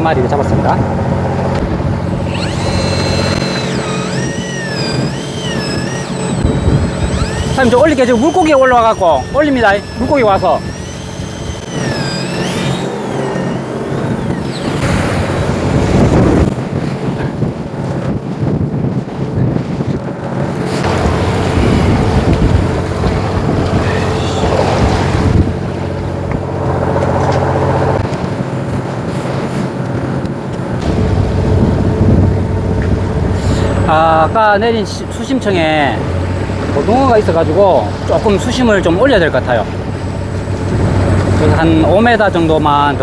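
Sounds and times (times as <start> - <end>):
boat engine humming: 0.0 - 43.0
wind and sea noise: 0.0 - 43.0.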